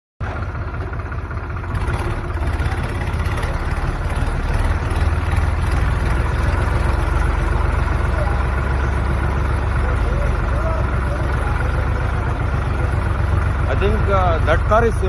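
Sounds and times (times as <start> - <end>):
engine rumbling at low speed: 0.2 - 15.0.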